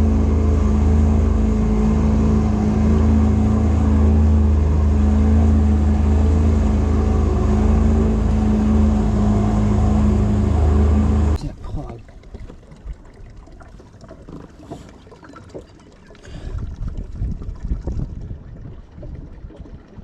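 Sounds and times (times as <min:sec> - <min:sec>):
outboard motor droning: 0:00.0 - 0:20.0
rushing wind and water: 0:00.0 - 0:20.0.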